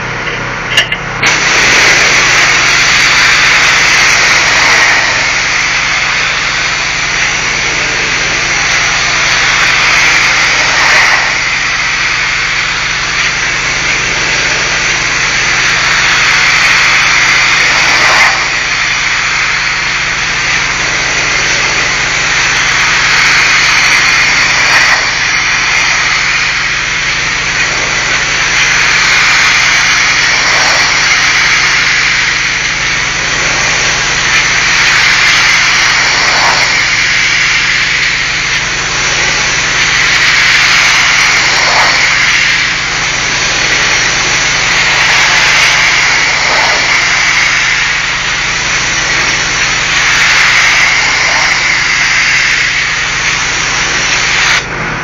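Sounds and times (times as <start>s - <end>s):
pressure washer jet hissing: 0.0s - 55.0s.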